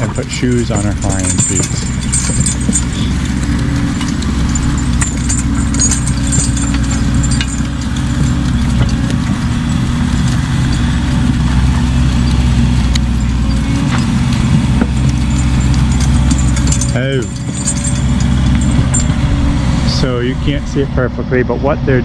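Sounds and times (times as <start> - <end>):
metallic harness jingling: 0.0 - 19.4
diesel engine running: 0.0 - 22.0.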